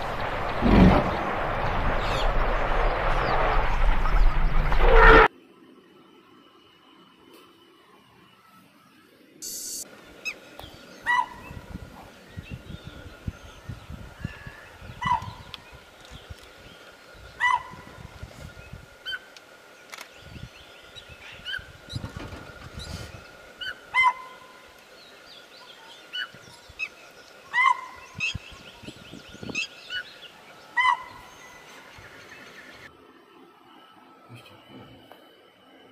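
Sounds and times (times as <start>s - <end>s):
faint steady whine: 0.0s - 35.9s.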